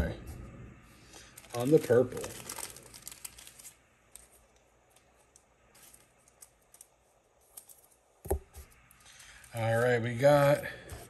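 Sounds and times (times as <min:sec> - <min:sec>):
trading cards rustling: 0:01.1 - 0:10.9.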